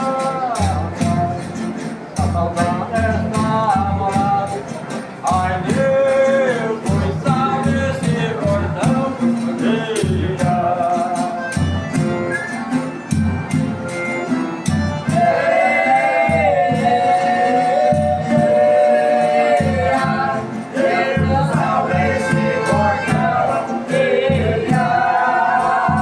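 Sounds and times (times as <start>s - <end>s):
men singing together: 0.0s - 11.8s, 15.0s - 26.0s
tambourine: 0.0s - 26.0s.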